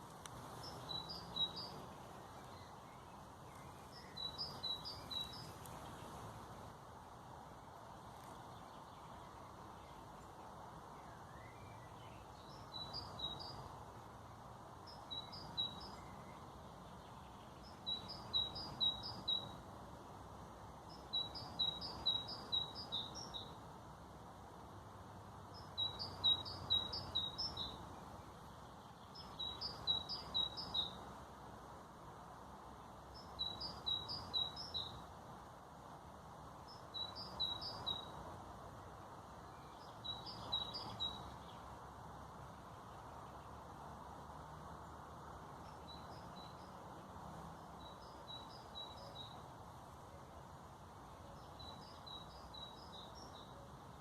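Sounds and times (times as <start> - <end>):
songbird chirping: 0.0 - 54.0.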